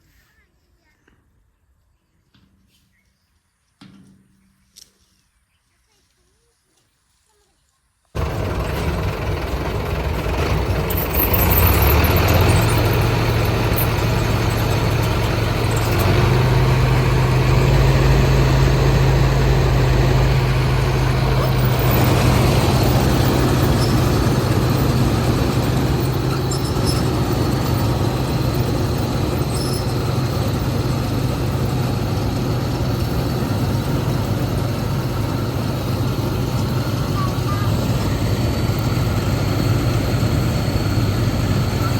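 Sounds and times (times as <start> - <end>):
tractor diesel engine revving: 8.2 - 41.9.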